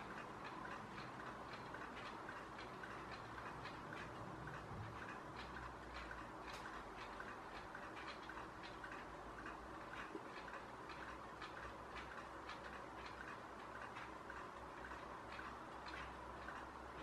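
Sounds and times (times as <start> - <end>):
faint irregular ticking: 0.0 - 17.0.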